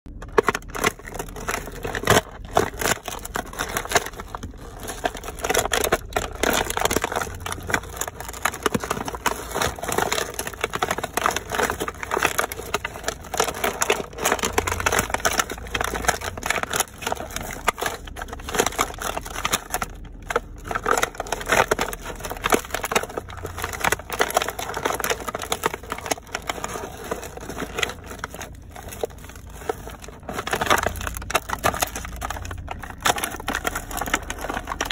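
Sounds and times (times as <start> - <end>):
cardboard box crushed underfoot: 0.1 - 34.9.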